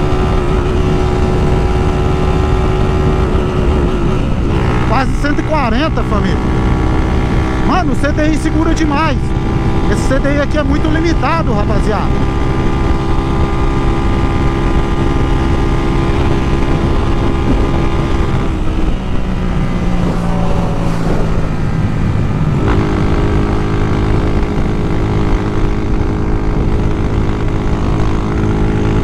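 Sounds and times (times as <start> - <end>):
motorcycle engine at high speed: 0.0 - 29.0
wind rushing over microphone: 0.0 - 29.0.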